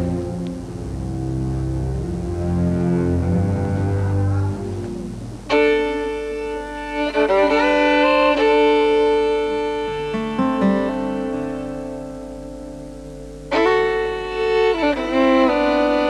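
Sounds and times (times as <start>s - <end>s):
low bowed strings: 0.0s - 16.0s
violin melody: 0.0s - 16.0s.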